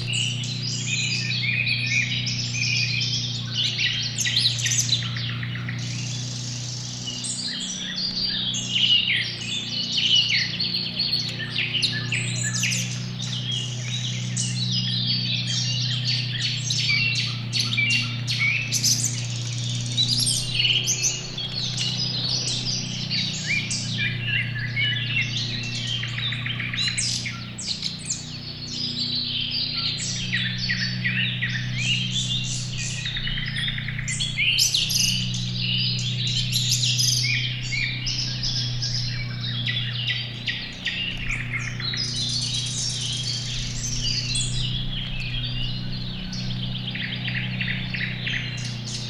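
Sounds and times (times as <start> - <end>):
low steady hum: 0.0 - 49.0
songbirds chirping: 0.0 - 49.0.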